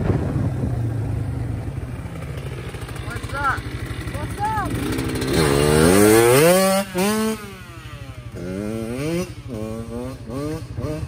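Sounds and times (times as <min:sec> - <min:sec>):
dirt bike accelerating: 0:00.0 - 0:11.0.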